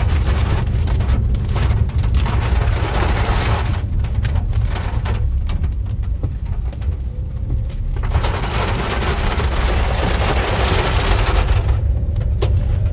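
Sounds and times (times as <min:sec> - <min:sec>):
heavy rain on car roof: 0:00.0 - 0:12.9
low rumble: 0:00.0 - 0:12.9.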